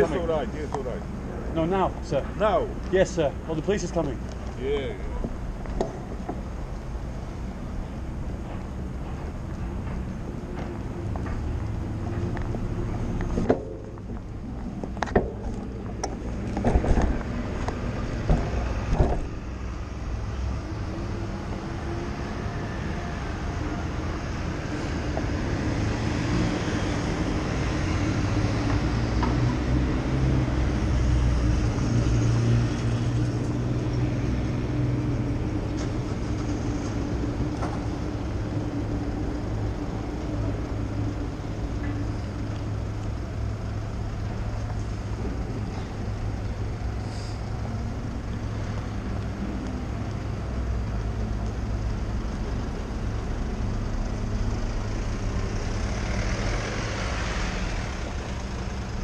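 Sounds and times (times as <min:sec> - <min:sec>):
street traffic: 0:00.0 - 0:59.0.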